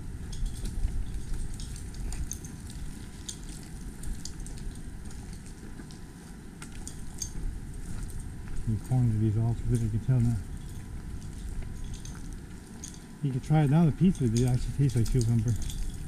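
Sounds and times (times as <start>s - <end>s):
footsteps crunching on trail: 0.0s - 16.0s
low rumble on microphone: 0.0s - 16.0s.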